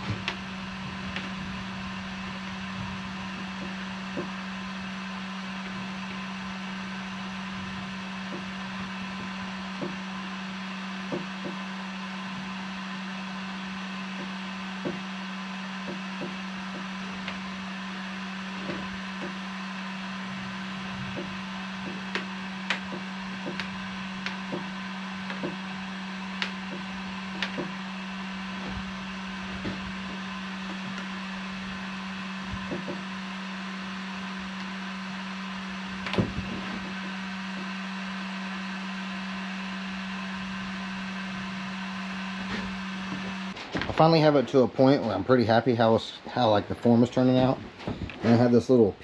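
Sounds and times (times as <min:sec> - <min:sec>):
heat gun humming: 0:00.0 - 0:45.6.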